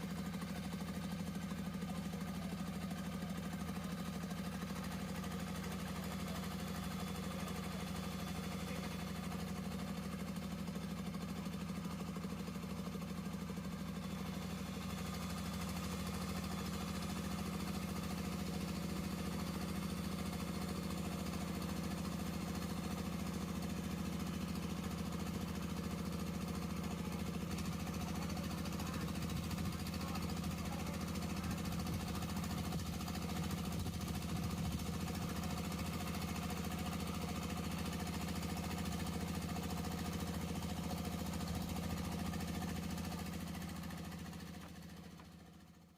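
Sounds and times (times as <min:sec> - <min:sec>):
boat diesel engine knocking: 0:00.0 - 0:45.6.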